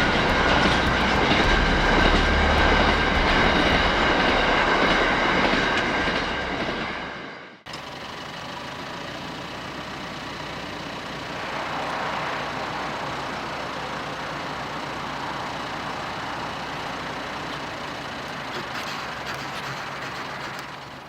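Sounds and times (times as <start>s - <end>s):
freight train passing: 0.0s - 8.8s, 9.5s - 21.0s.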